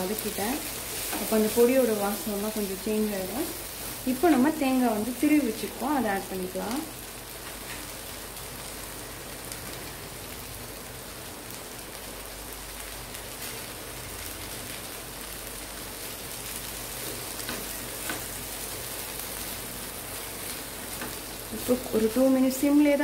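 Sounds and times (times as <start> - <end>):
beans sizzling in oil: 0.0 - 23.0.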